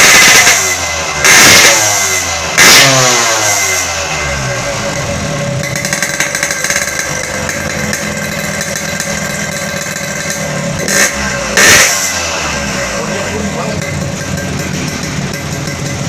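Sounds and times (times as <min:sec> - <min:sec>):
engine throttle blips: 0:00.0 - 0:16.0
two-stroke engine idling: 0:00.0 - 0:16.0.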